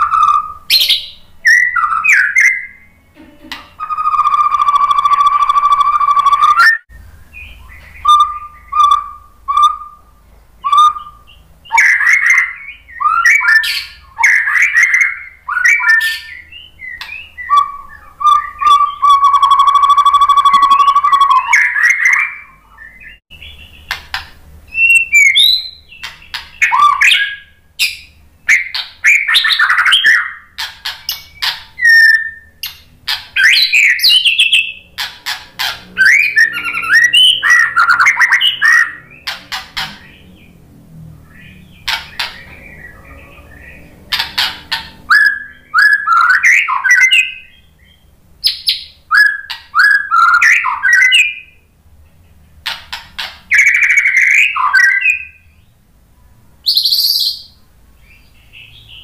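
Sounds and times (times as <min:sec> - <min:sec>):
bird singing whistled phrases: 0:00.0 - 0:03.0, 0:03.8 - 0:23.9, 0:24.7 - 0:32.8, 0:33.4 - 0:34.9, 0:35.6 - 0:39.3, 0:41.3 - 0:51.6, 0:53.5 - 0:55.7, 0:56.7 - 0:57.6.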